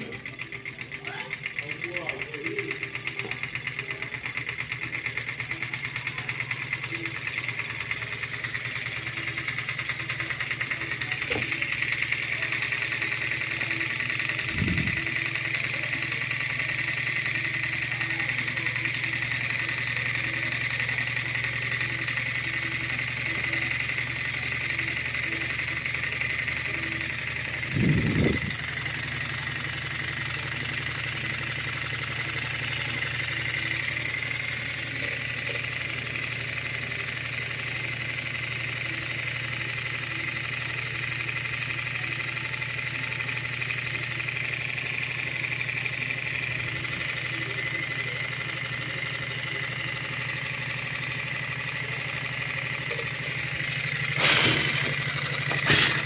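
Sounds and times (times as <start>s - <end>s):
engine rapid mechanical ticking: 0.0s - 56.0s.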